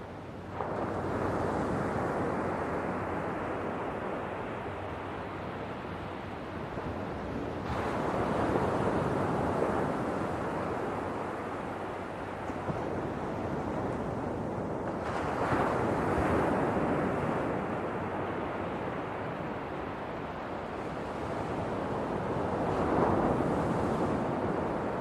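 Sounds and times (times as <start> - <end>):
ocean waves breaking on shore: 0.0 - 25.0.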